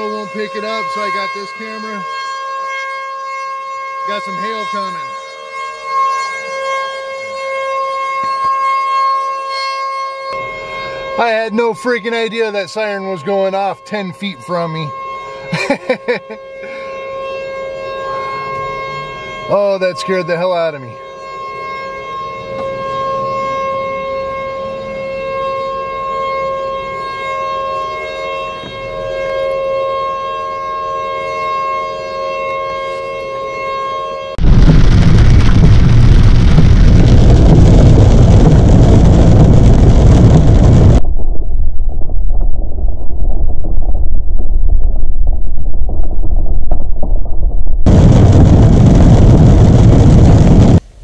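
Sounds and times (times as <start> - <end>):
warning siren steady tone: 0.0 - 51.0.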